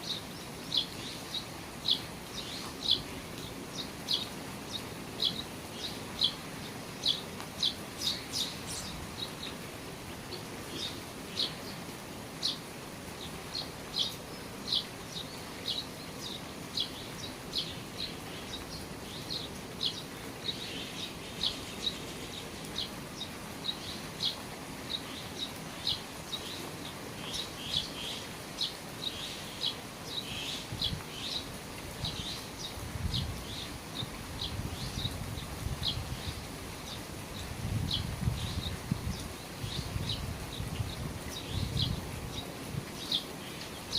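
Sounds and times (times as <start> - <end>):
rain hissing: 0.0 - 43.9.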